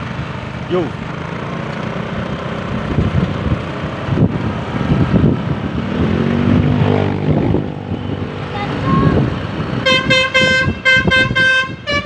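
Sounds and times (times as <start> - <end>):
vehicle engines in traffic: 0.0 - 12.0.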